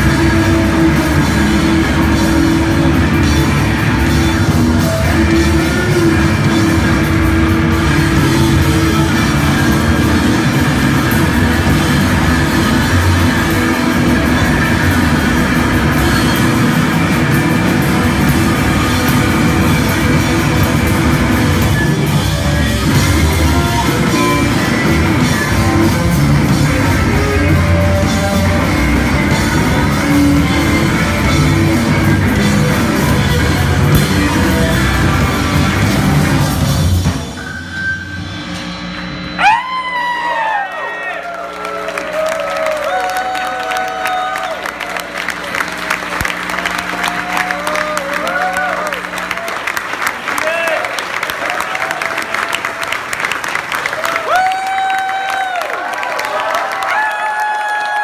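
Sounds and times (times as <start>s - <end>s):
live rock band playing: 0.0s - 40.7s, 41.5s - 55.1s.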